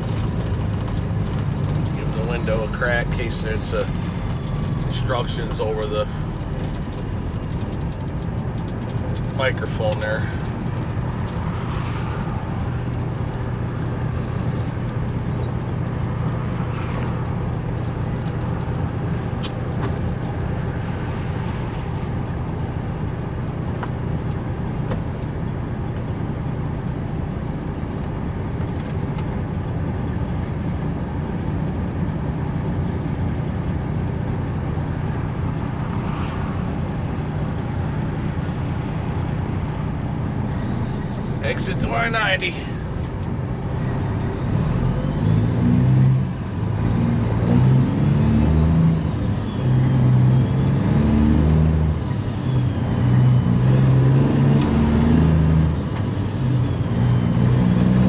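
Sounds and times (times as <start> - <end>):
road noise: 0.0 - 58.0
truck diesel engine hum: 0.0 - 58.0.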